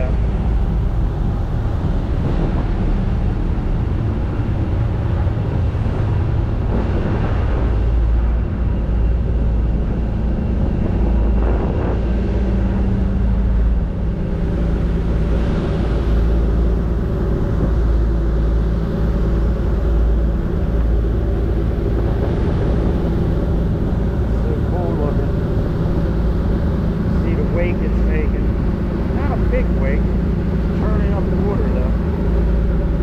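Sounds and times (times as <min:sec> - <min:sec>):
churning wake water: 0:00.0 - 0:33.0
ferry engines droning: 0:00.0 - 0:33.0.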